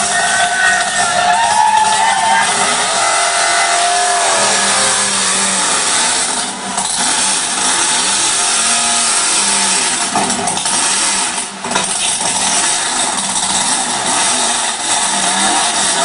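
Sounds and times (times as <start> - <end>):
loud engine running: 0.0 - 16.0.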